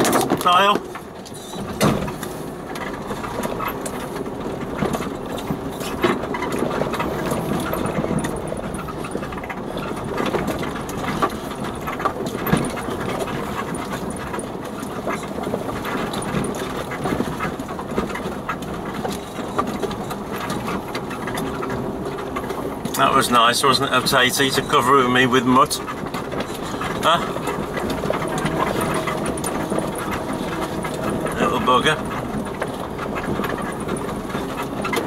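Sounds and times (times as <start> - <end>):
knocks and rattles: 0.0 - 35.0
vehicle engine running at low speed: 0.0 - 35.0.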